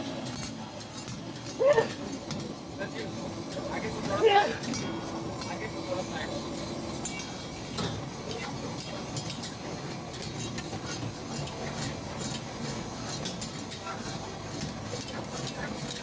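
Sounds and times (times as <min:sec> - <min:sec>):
metal utensils clinking on cookware: 0:00.0 - 0:16.0.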